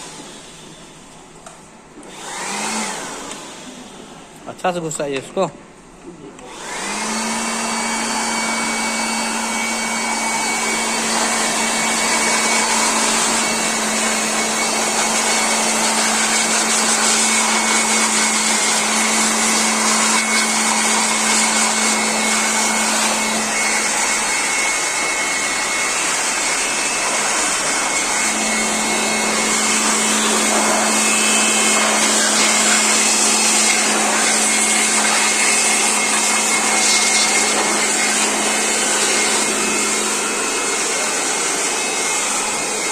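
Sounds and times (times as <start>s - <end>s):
electric air blower whining: 0.0s - 5.4s, 6.2s - 42.9s.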